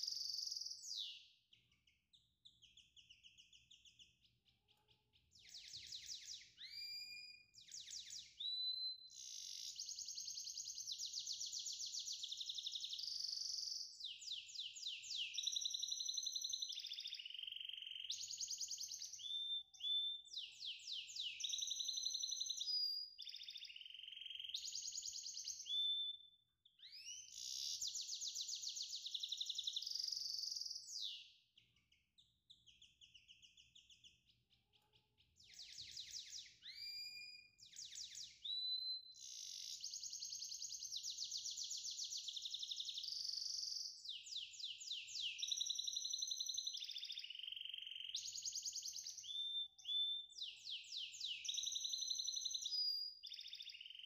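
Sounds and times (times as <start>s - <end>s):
songbird singing trills: 0.0s - 54.0s.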